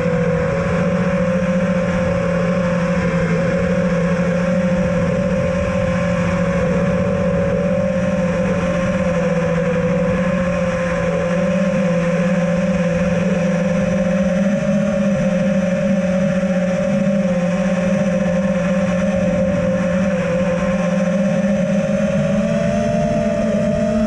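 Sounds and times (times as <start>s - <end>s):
quadcopter motors humming: 0.0s - 24.0s.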